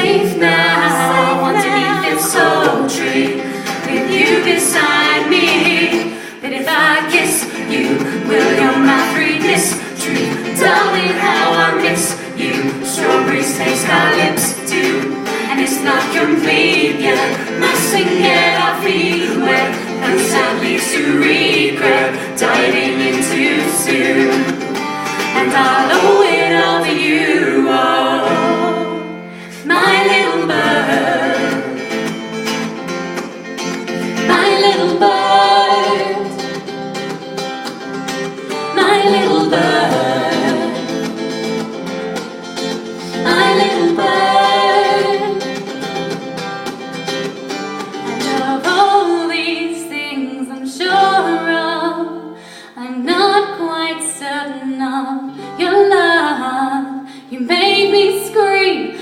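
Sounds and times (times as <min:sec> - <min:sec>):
people singing: 0:00.0 - 0:33.3, 0:33.9 - 0:46.4, 0:47.3 - 0:59.0
guitar accompaniment: 0:00.0 - 0:59.0.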